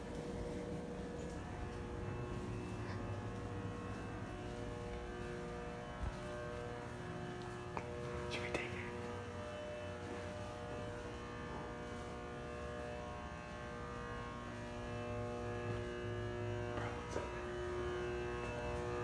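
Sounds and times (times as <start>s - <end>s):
drone music of held tones: 0.0s - 19.0s
low hum: 0.0s - 19.0s.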